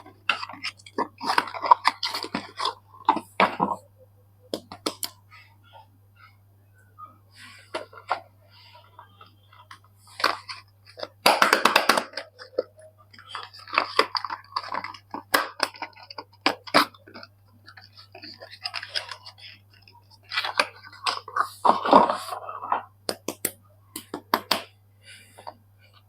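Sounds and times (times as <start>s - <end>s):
soap packaging crinkling: 0.0s - 3.8s, 7.7s - 24.7s.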